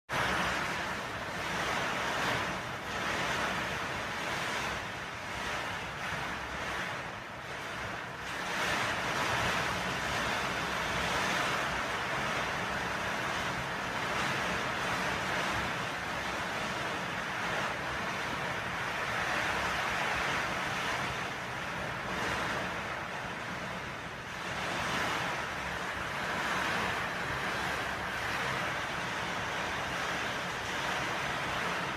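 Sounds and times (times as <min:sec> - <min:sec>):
steady rainfall: 0:00.1 - 0:31.9.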